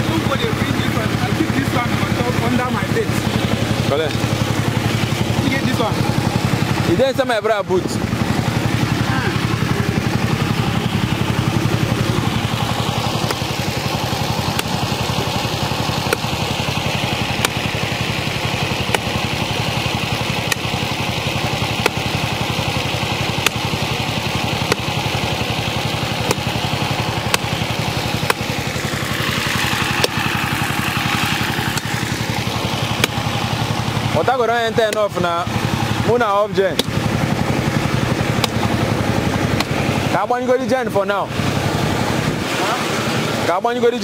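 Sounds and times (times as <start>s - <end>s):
generator engine running: 0.0s - 44.0s.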